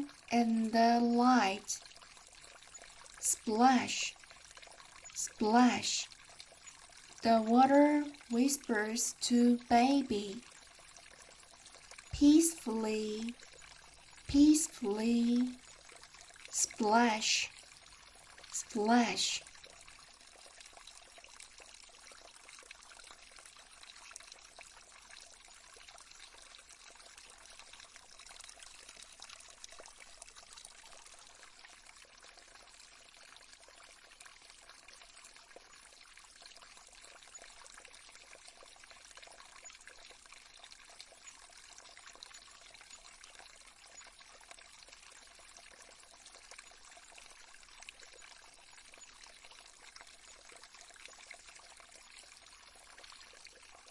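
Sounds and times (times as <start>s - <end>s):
small stream trickling: 0.0s - 53.9s.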